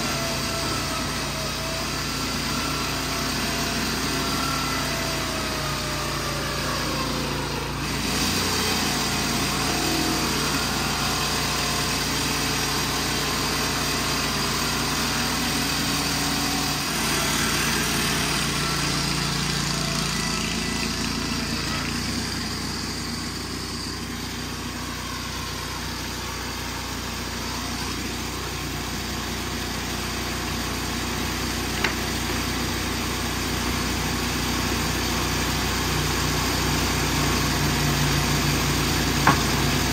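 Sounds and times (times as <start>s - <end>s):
saw engine running: 0.0s - 39.9s.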